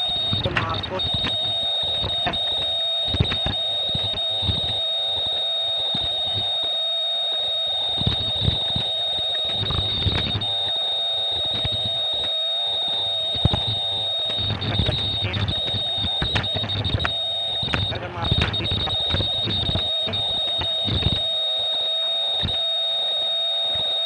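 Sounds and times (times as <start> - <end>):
machine high-pitched whine: 0.0 - 24.0.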